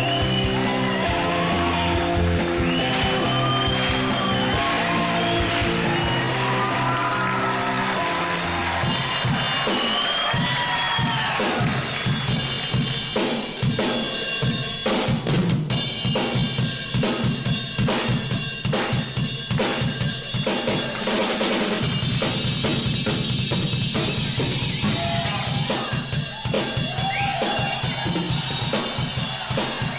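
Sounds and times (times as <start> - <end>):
drum kit played fast: 0.0 - 29.9.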